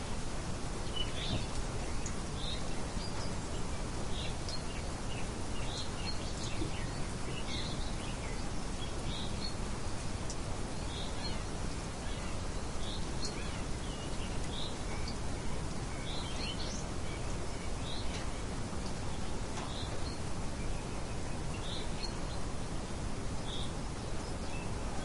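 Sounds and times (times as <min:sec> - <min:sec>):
light wind hiss: 0:00.0 - 0:25.0
small birds chirping: 0:00.0 - 0:25.0.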